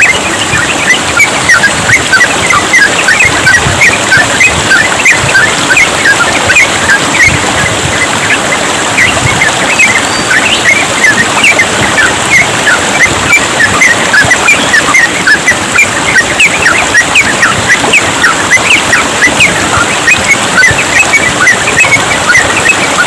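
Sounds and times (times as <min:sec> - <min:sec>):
bulbuls chirping: 0:00.0 - 0:23.0
trickling running water: 0:00.0 - 0:23.0.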